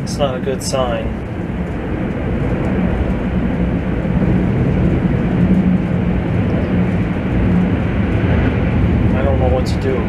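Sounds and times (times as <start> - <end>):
machine droning: 0.0 - 10.0.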